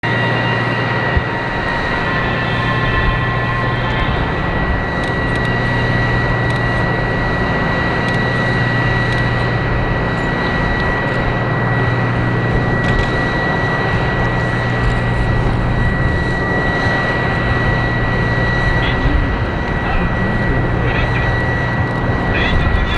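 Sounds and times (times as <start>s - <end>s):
jet engine whine and rush: 0.0s - 22.9s.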